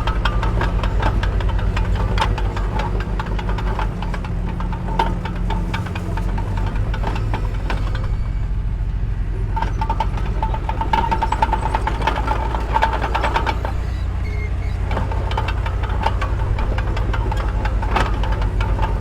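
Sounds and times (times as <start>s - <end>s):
metallic clicking and clanking: 0.0s - 8.2s, 9.5s - 19.0s
bulldozer engine running: 0.0s - 19.0s.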